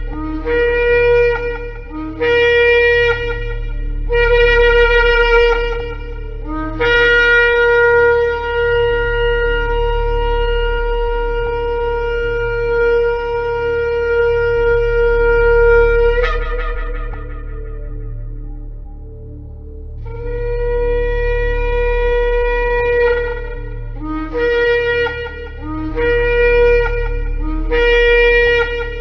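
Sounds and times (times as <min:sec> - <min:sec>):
shofar blasts: 0:00.0 - 0:19.0, 0:20.0 - 0:29.0
low steady hum: 0:00.0 - 0:29.0.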